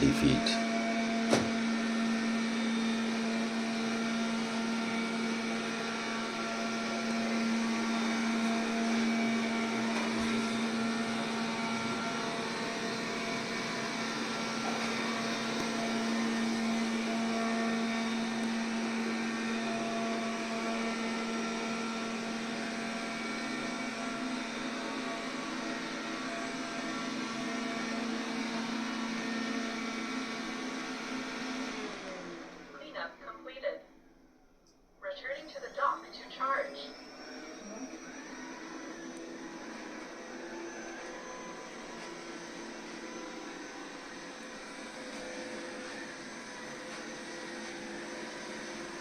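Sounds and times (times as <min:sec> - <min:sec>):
robot vacuum cleaner whirring: 0:00.6 - 0:32.8, 0:35.8 - 0:49.0.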